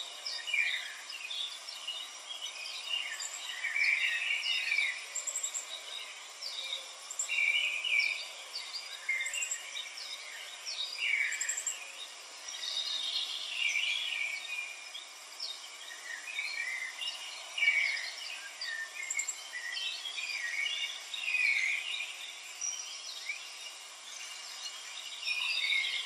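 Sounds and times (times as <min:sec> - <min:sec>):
faint background hiss: 0:00.0 - 0:26.0.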